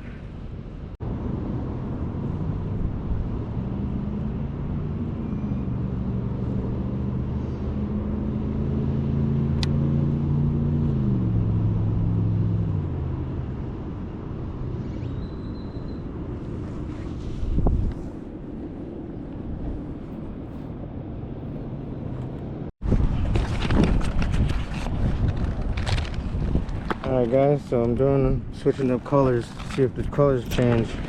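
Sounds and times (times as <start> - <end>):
motor vehicle passing: 1.1 - 26.6.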